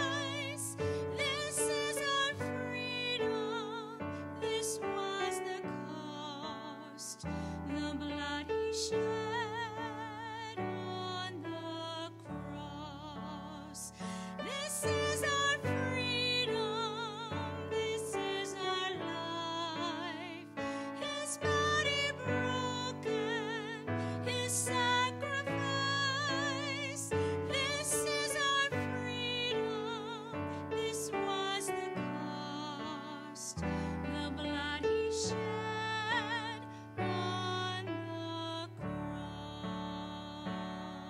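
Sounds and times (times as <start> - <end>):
woman singing with vibrato: 0.0 - 41.0.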